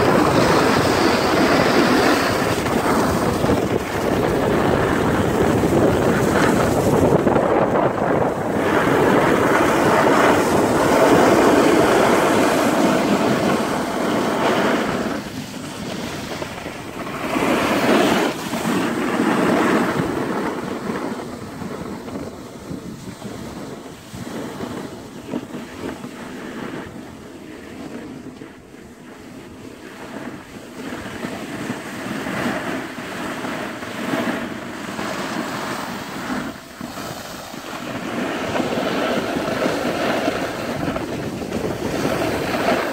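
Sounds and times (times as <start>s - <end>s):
skis scraping on snow: 0.0s - 42.9s
wind buffeting microphone: 0.0s - 42.9s.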